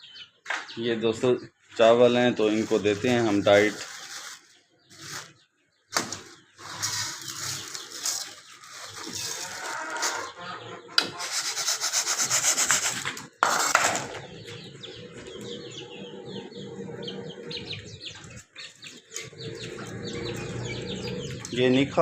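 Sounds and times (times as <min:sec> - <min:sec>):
small birds chirping: 0:00.0 - 0:22.0
rhythmic scraping rub: 0:02.1 - 0:05.4, 0:06.6 - 0:22.0.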